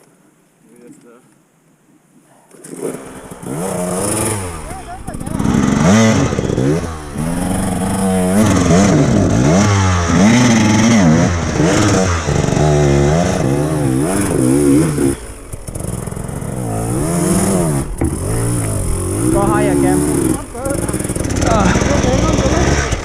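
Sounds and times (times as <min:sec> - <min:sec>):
dirt bike engine revving: 0:02.6 - 0:23.0.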